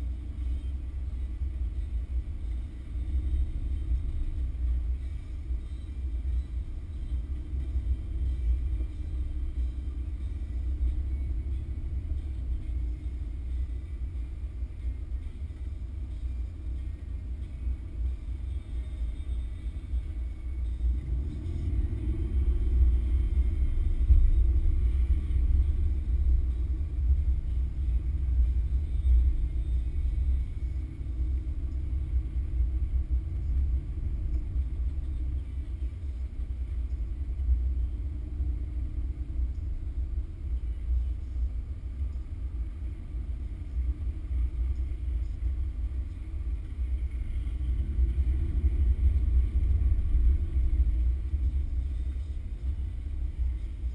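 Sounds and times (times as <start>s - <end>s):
car engine hum: 0.0s - 53.9s
road rumble: 0.0s - 53.9s.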